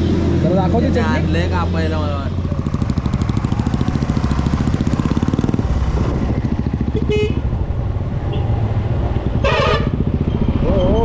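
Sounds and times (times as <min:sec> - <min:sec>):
motorcycle engine running: 0:02.1 - 0:11.0.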